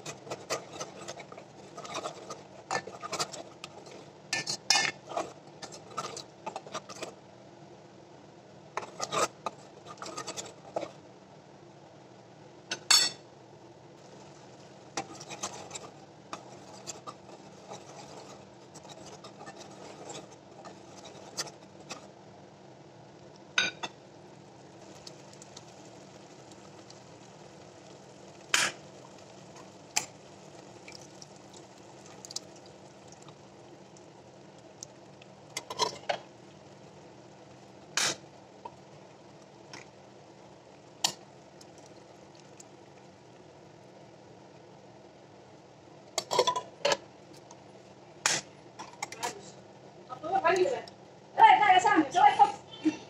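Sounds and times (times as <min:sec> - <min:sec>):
faint steady background hum: 0:00.0 - 0:53.0.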